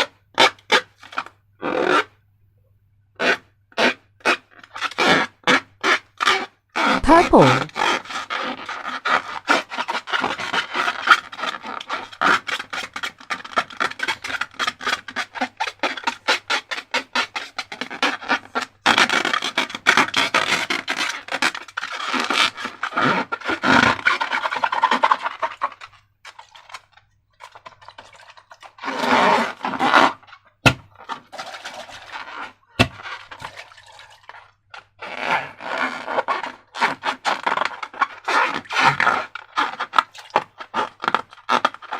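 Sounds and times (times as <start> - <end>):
slime crackling and scraping: 3.2 - 41.9.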